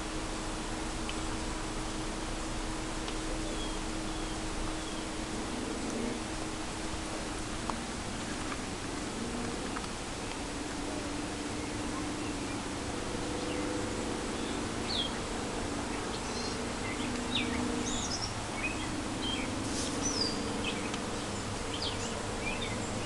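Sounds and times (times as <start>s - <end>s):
steady low buzz: 0.0s - 23.0s.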